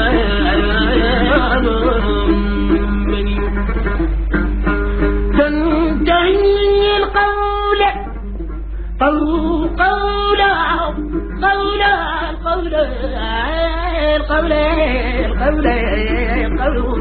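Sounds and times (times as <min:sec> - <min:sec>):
middle eastern style melody: 0:00.0 - 0:17.0.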